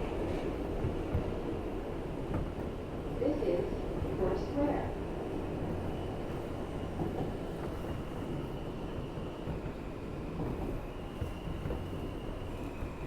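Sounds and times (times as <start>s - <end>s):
subway train rumble and hum: 0.0s - 13.0s.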